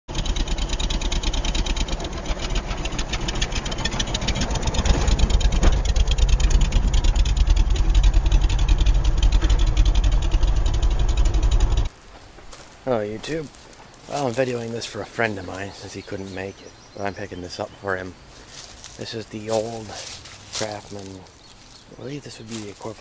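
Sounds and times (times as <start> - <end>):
garden tractor engine running: 0.1 - 23.0.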